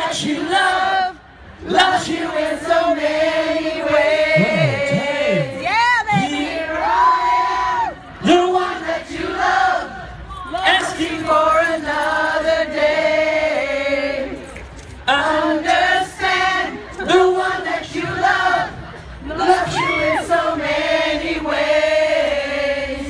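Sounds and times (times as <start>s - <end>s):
many voices singing together: 0.0s - 23.0s.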